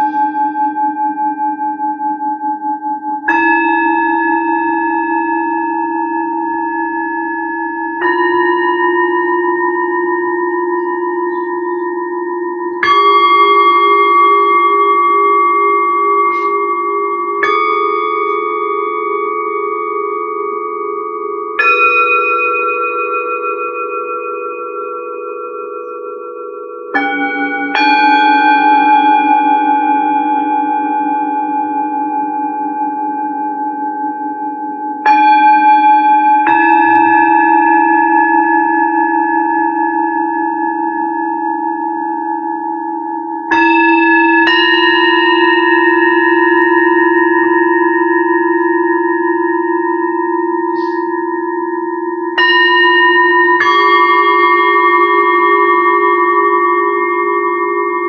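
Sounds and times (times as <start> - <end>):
singing bowls ringing: 0.0 - 58.0.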